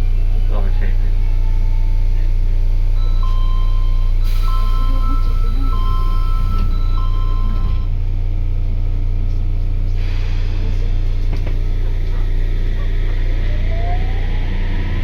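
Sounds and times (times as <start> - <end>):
train interior low hum: 0.0 - 15.0.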